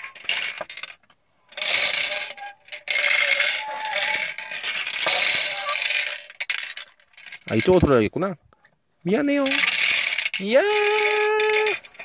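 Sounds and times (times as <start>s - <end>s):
plastic balls rattling in bingo cage: 0.0s - 8.1s, 9.2s - 12.0s.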